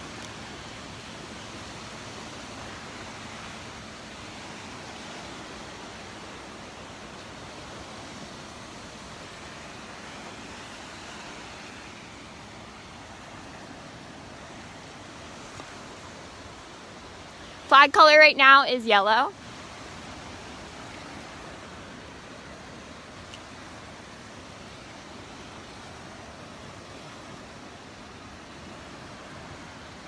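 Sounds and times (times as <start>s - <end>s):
surf washing along shore: 0.0s - 30.0s.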